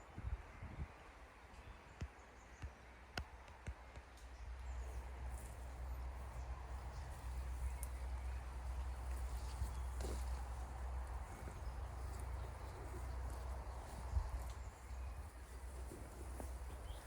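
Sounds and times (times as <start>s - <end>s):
low rumble of wind on microphone: 0.0s - 1.4s, 4.3s - 17.0s.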